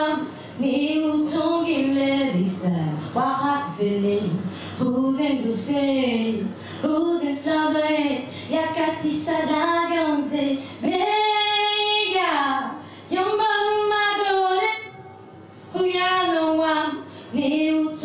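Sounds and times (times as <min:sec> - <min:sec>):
woman singing unaccompanied: 0:00.0 - 0:15.0, 0:15.7 - 0:18.0.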